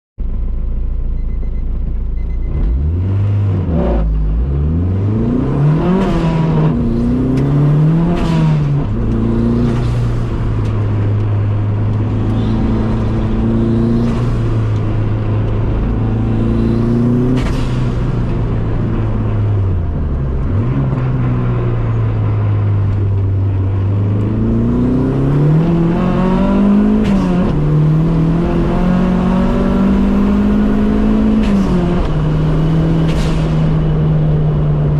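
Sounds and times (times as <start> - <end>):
car engine revving: 2.4 - 34.9.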